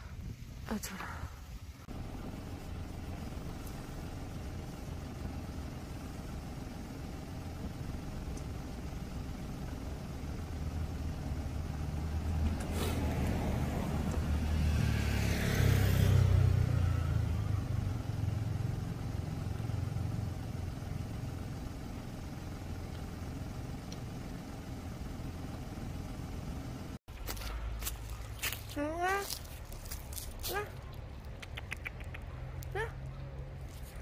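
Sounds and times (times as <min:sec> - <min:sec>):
vehicle passing rumble: 0:01.2 - 0:34.0.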